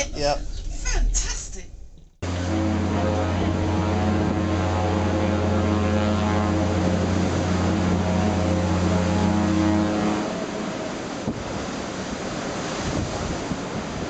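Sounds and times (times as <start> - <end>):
ship engine droning: 0.0 - 14.0.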